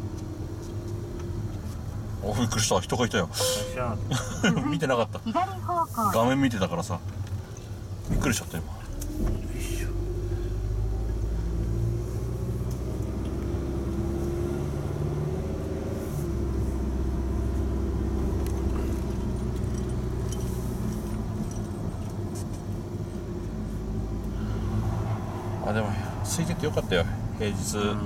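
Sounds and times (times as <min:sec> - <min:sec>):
tyre and road noise: 0:00.0 - 0:28.0
van engine hum: 0:00.0 - 0:28.0.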